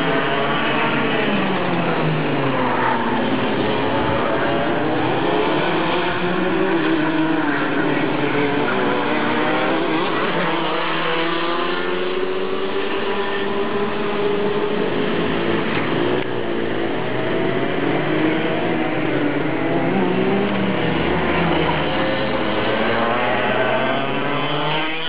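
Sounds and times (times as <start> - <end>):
go-kart engines revving: 0.0 - 25.0.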